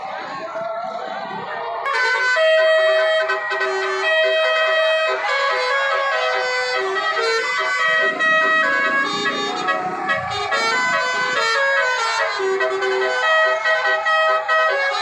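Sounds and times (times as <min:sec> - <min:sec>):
horns playing a tune: 0:01.7 - 0:15.0.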